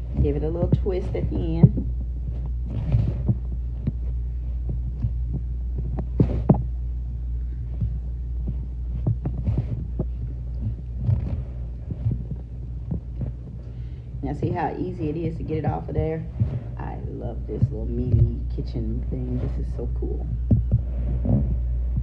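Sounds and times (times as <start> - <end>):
hands pressing dough: 0.0 - 22.0
steady low hum: 0.0 - 22.0.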